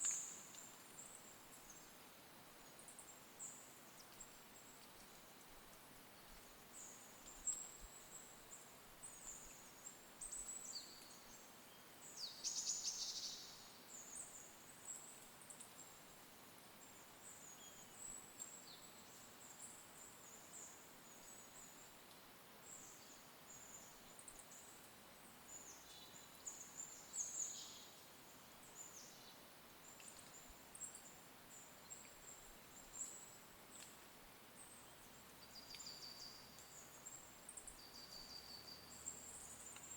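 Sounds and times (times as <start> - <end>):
faint steady hiss: 0.0 - 39.9
small songbirds chirping: 0.0 - 39.9.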